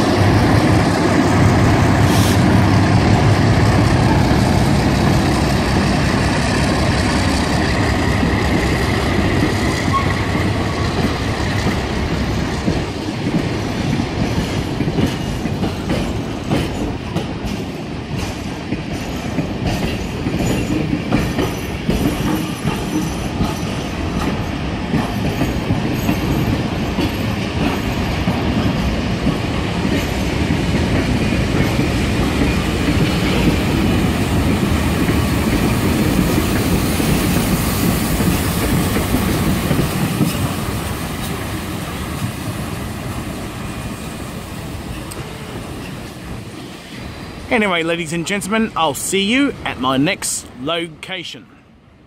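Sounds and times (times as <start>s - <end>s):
train wheel clatter: 0.0s - 47.2s.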